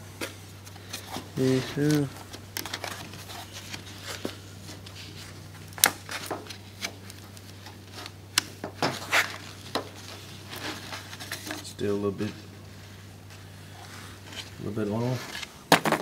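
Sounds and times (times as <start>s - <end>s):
steady low hum: 0.0s - 16.0s
carpet rustling: 0.2s - 16.0s.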